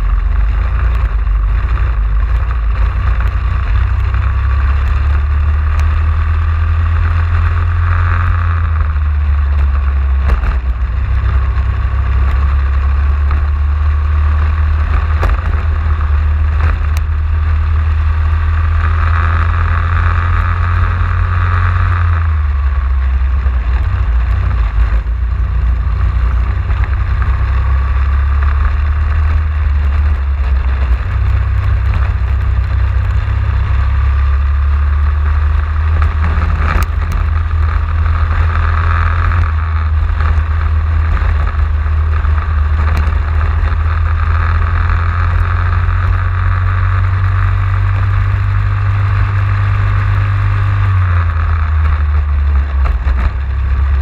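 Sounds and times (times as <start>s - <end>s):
heavy low rumble: 0.0s - 54.0s
racing kart engine running hard: 0.0s - 54.0s.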